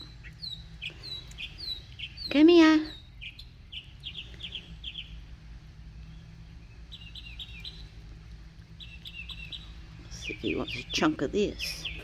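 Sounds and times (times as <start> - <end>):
small bird chirping: 0.0 - 8.1, 8.7 - 12.0
steady low hum: 0.0 - 12.0.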